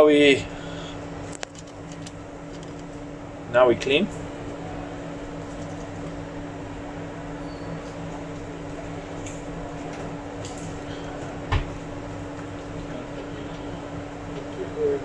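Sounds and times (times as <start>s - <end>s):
workbench equipment humming: 0.0s - 15.0s.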